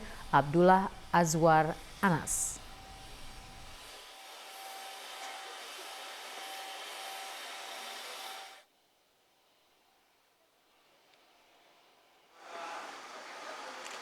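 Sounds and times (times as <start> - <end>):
hiss-like background noise: 0.0 - 14.0.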